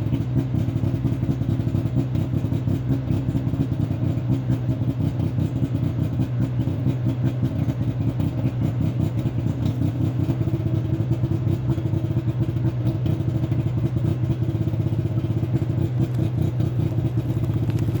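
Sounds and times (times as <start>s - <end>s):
two-stroke engine exhaust running: 0.0s - 18.0s.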